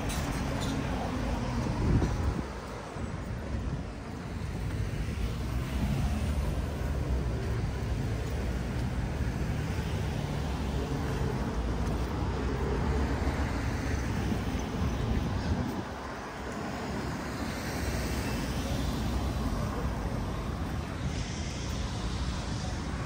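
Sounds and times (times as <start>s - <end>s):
traffic rumble and engine hum: 0.0s - 23.0s.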